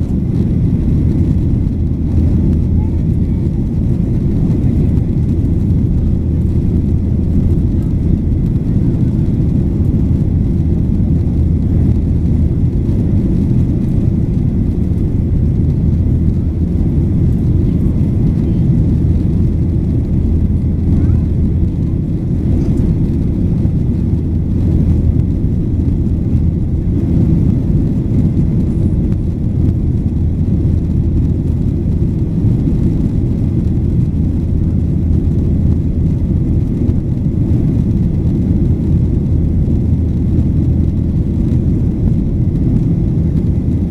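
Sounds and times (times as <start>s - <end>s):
airplane engine rumble in cabin: 0.0s - 43.9s.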